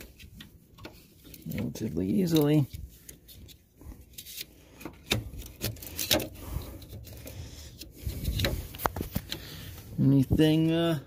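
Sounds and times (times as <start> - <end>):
plastic rubbing: 0.0 - 10.8.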